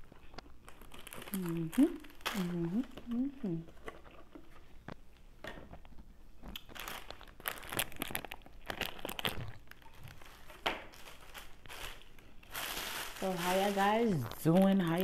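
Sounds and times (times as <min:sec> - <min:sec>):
plastic packaging crinkling: 0:00.0 - 0:04.7, 0:05.7 - 0:15.0.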